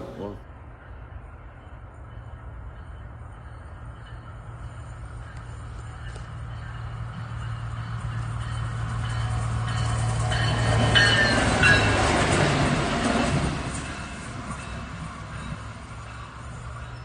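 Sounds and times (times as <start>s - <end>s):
passing train rumble: 0.0s - 17.0s.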